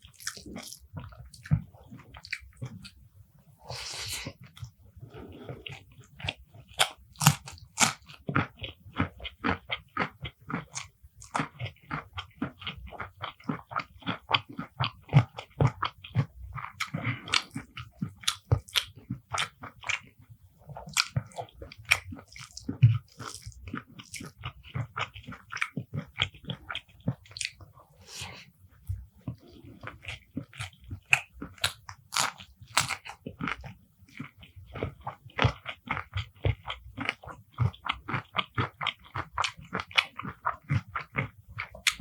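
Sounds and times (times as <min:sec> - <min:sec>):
chewing with crisp crunches: 0:00.0 - 0:03.0, 0:03.6 - 0:42.0.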